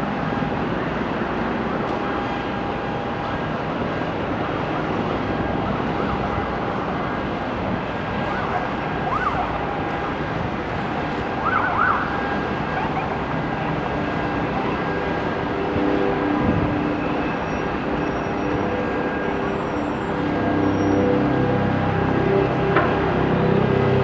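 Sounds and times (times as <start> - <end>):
steady outdoor rumble: 0.0 - 24.0
distant emergency sirens: 0.2 - 24.0.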